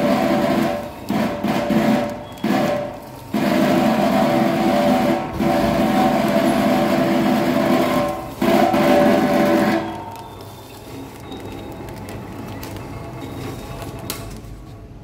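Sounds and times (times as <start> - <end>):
packing machine humming whine: 0.0 - 15.0.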